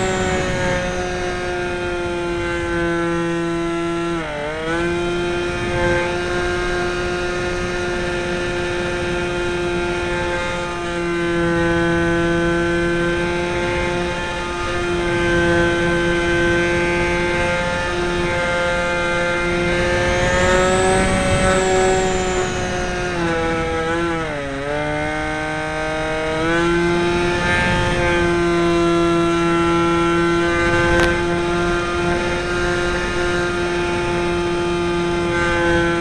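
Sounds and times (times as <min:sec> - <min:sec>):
model plane motor whining: 0:00.0 - 0:36.0.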